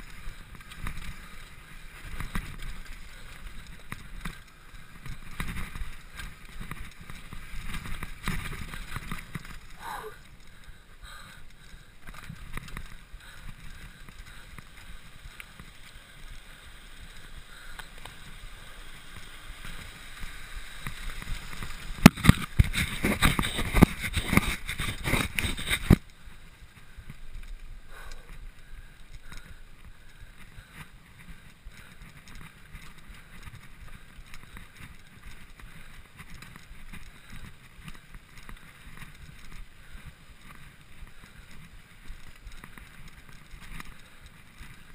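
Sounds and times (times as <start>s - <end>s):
bike frame and chain rattling: 0.0s - 44.9s
bike tyres on gravel: 0.0s - 44.9s.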